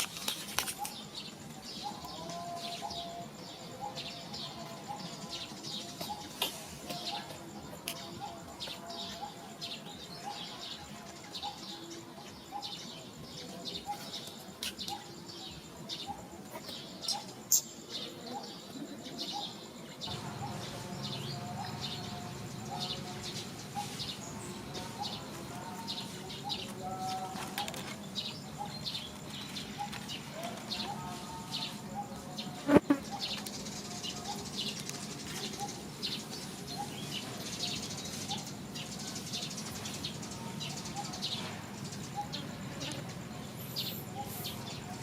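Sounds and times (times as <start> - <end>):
birds chirping and calling: 0.0 - 45.0.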